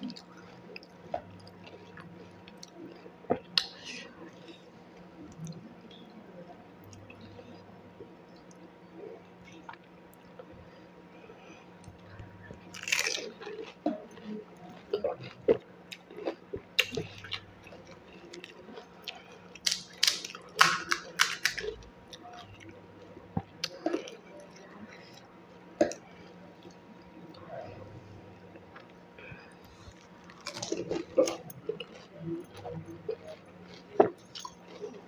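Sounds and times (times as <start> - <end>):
crunching and chewing: 0.0 - 5.6, 11.4 - 35.0.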